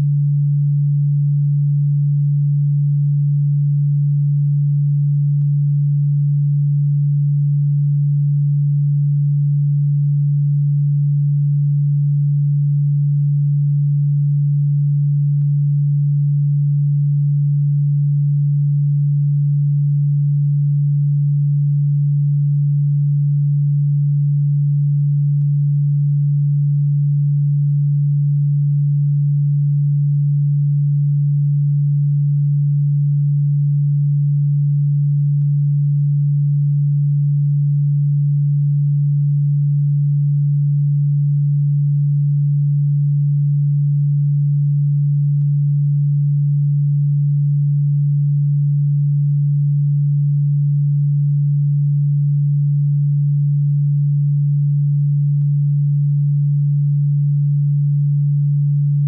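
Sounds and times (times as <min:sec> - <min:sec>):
low electronic sine tone: 0:00.0 - 0:59.0.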